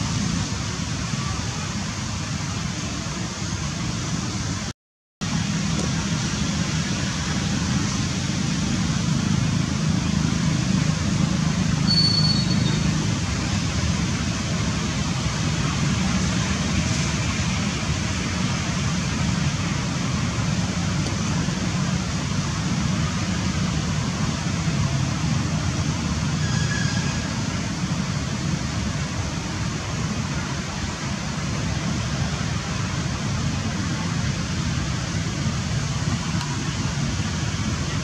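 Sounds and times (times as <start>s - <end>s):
low rumble with hiss: 0.0s - 38.0s.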